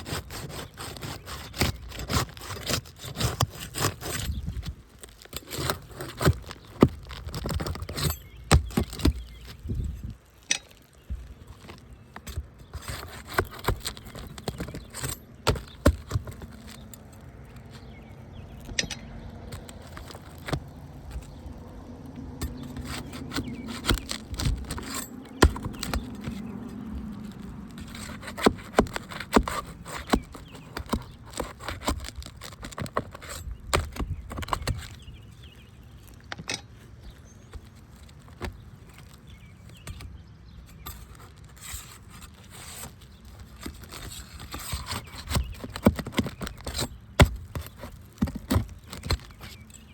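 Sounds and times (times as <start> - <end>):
roof shingles being pried loose: 0.0 - 49.9.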